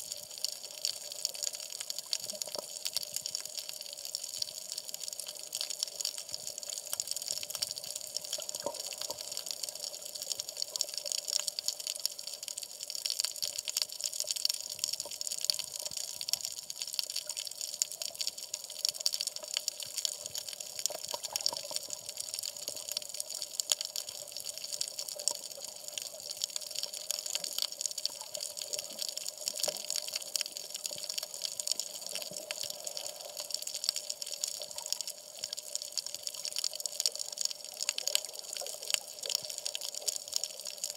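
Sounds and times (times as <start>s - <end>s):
dense crackle of underwater clicks: 0.0s - 40.9s.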